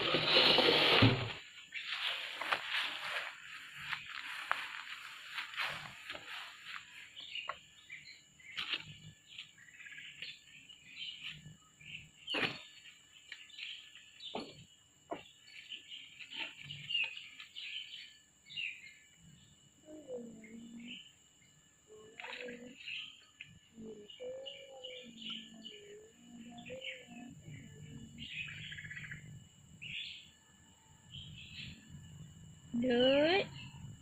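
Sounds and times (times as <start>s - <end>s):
small birds twittering: 1.5s - 34.0s.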